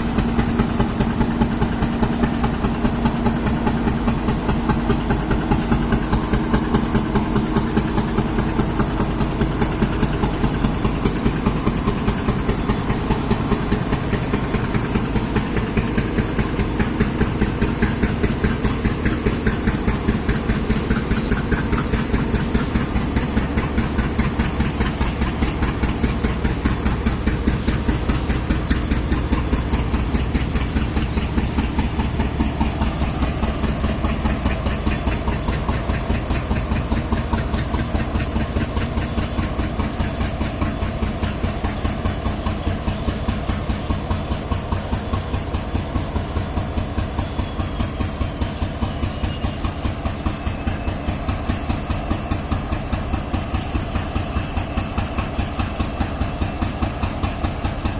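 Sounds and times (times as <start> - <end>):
diesel locomotive engine idling: 0.0 - 57.9.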